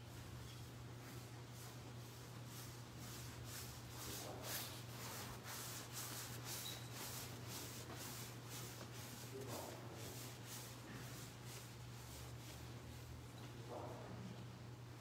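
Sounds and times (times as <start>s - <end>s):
people shuffling on carpet: 0.9s - 14.0s.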